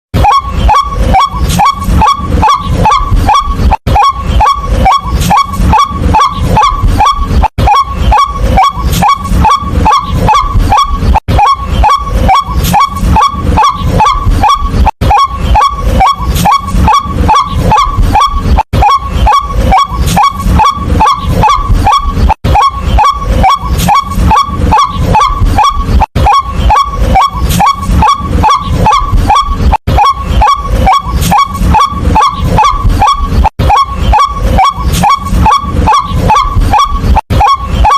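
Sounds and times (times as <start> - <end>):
waterhen harsh kwak calls: 0.2 - 37.9.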